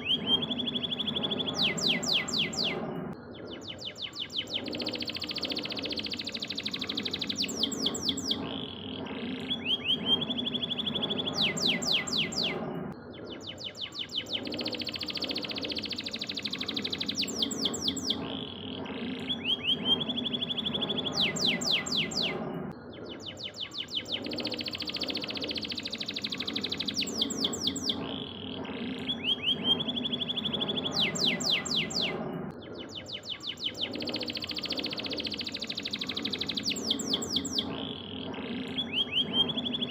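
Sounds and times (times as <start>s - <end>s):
canary singing trills: 0.0s - 39.9s
low hum: 0.0s - 39.9s.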